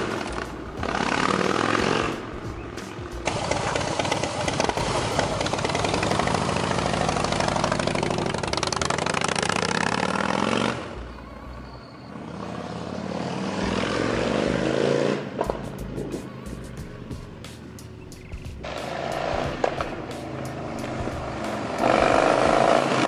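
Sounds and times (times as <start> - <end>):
motorcycle engine revving: 0.0 - 11.2, 12.1 - 23.0.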